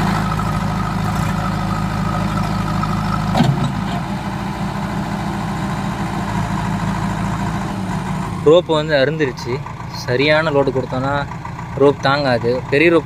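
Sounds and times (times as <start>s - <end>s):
diesel engines running under load: 0.0s - 13.0s.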